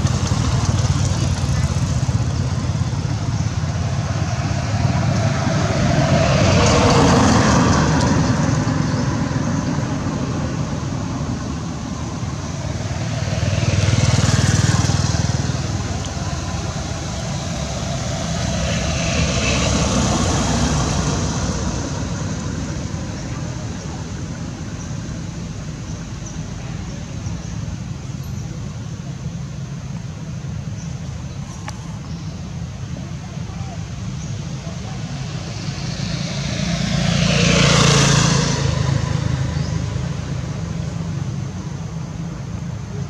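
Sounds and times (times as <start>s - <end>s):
vehicles passing by: 0.0s - 43.0s.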